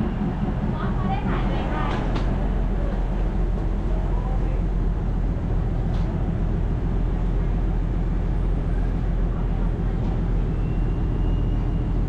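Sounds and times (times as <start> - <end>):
large engine rumbling: 0.0 - 12.0.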